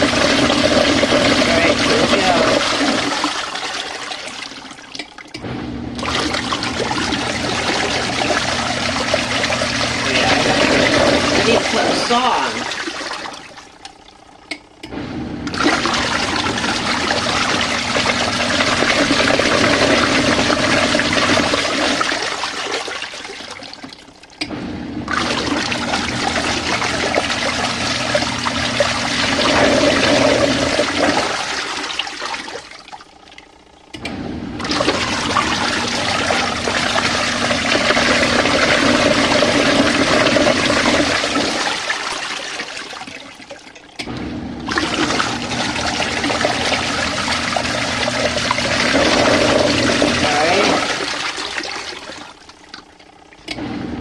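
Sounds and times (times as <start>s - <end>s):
faint motor hum: 0.0s - 54.0s
washing machine churning and sloshing: 0.0s - 54.0s.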